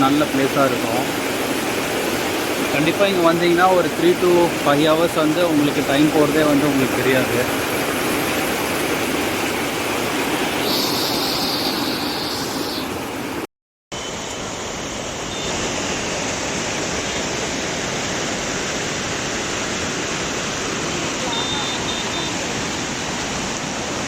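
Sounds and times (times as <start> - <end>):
water rushing over rocks: 0.0 - 13.5, 14.9 - 24.0.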